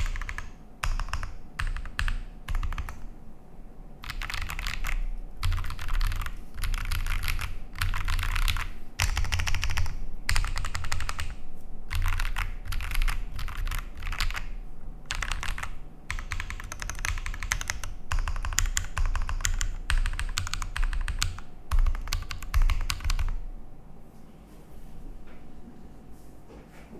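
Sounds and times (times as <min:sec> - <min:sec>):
fast typing on mechanical keyboard: 0:00.0 - 0:03.1, 0:04.0 - 0:23.5.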